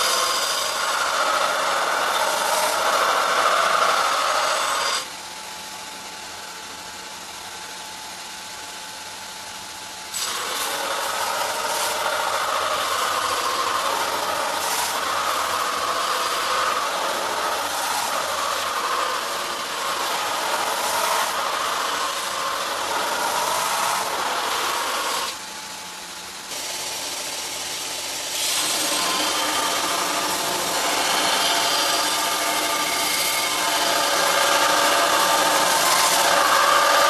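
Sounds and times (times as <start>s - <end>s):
rasping rattling machine: 0.0s - 5.1s, 10.0s - 37.0s.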